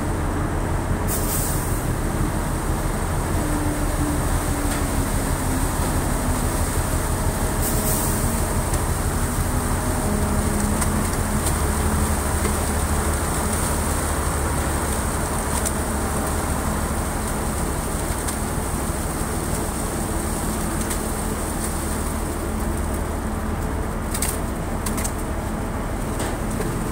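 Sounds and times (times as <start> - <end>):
crane machinery drone: 0.0 - 26.9.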